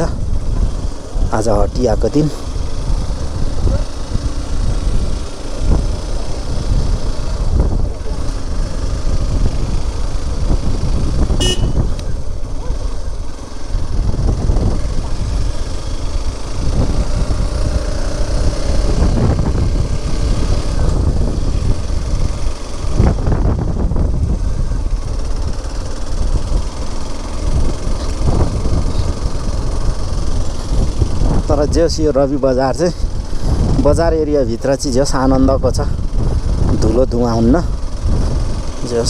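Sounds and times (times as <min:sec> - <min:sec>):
motorcycle engine running: 0:00.0 - 0:39.0
wind rumble on microphone: 0:00.0 - 0:39.0.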